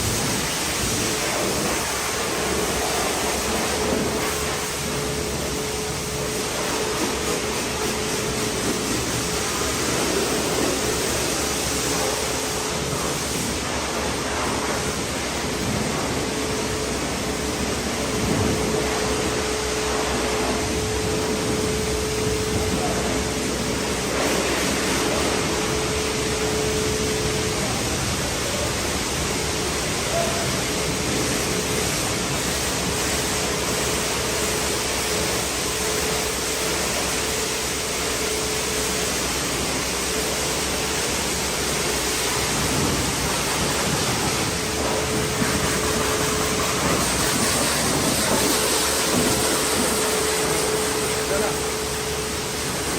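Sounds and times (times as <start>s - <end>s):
pressure washer spraying water: 0.0s - 52.9s.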